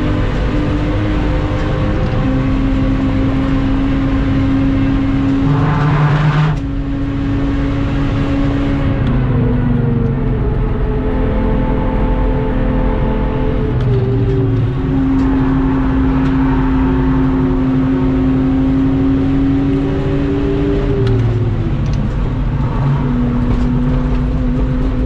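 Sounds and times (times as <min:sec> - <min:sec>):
car engine at high revs: 0:00.0 - 0:25.0
wind and road noise: 0:00.0 - 0:25.0.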